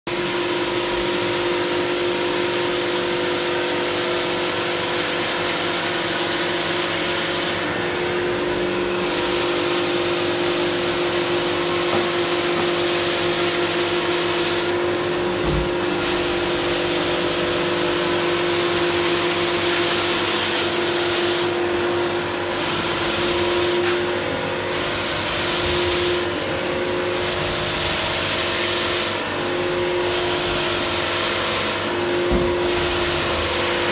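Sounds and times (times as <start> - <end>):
vacuum motor hum: 0.1 - 33.9.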